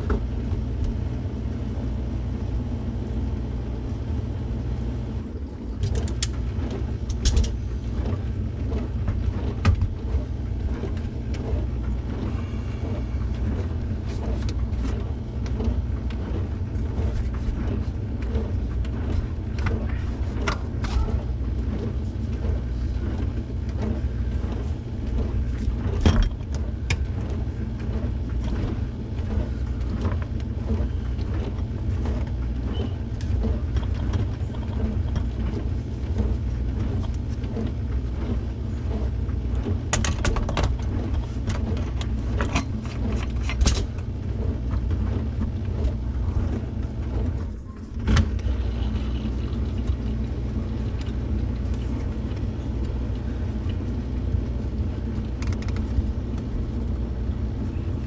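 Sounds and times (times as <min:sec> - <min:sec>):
truck engine and road rumble: 0:00.0 - 0:58.0
small rattles and clicks in cab: 0:05.7 - 0:58.0.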